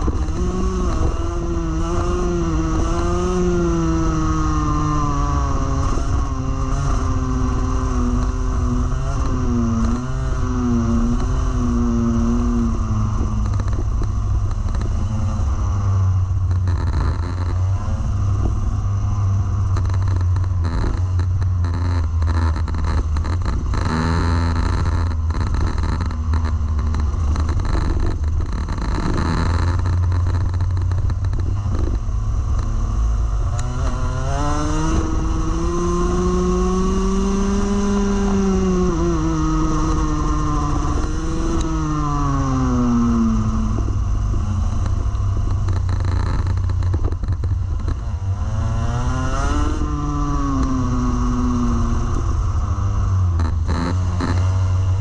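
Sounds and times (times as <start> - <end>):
kart engine racing: 0.0 - 55.0.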